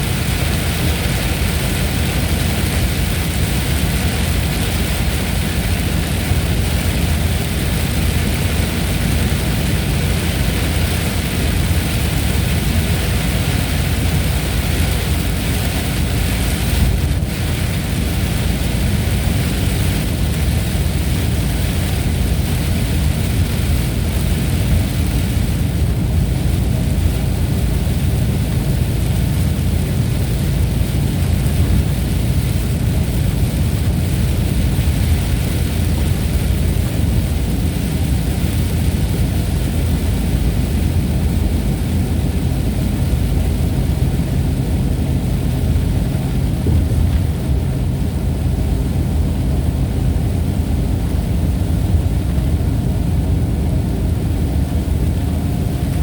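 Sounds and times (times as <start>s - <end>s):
continuous low rumble: 0.0s - 56.0s
heavy rain hissing: 0.0s - 56.0s.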